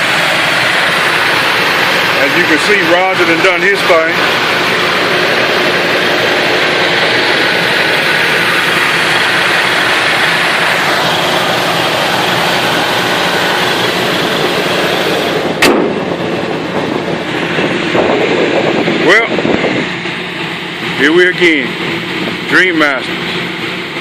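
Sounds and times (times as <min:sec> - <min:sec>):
pickup engine idling: 0:00.0 - 0:24.0.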